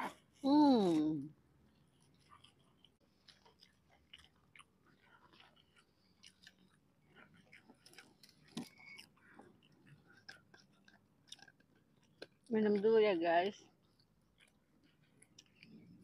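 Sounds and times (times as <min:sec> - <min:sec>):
chewing crispy fried snacks: 0:01.6 - 0:16.0.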